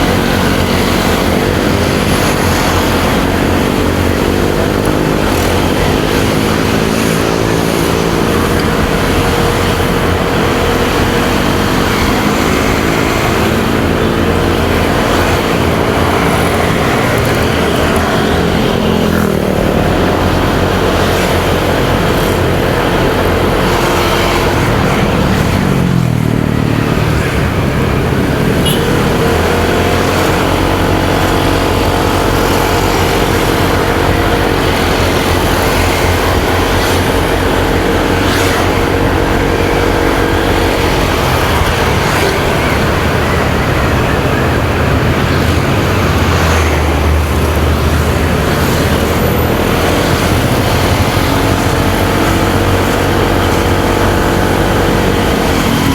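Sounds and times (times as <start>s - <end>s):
motorcycle engine running: 0.0s - 55.9s
road and traffic noise: 0.0s - 55.9s.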